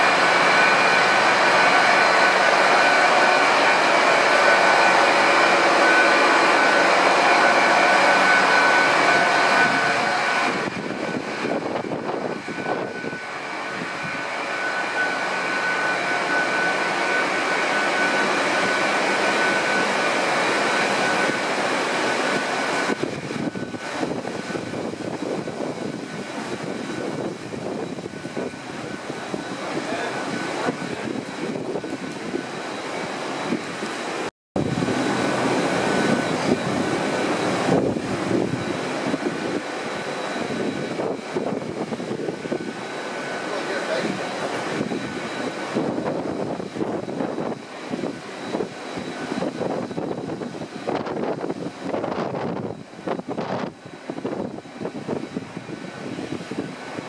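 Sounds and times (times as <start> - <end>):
diesel train with whining tone: 0.0 - 57.0.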